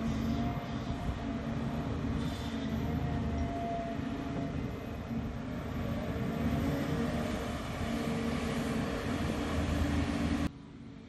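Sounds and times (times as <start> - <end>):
excavator diesel engine droning: 0.0 - 10.5.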